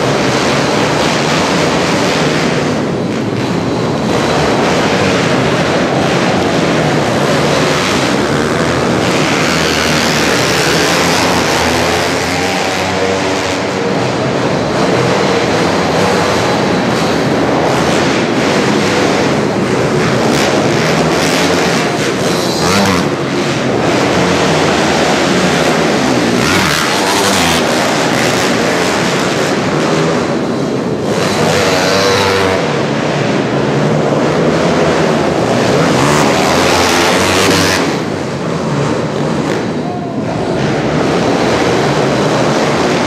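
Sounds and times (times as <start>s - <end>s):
pit bike engines revving: 0.0s - 43.0s.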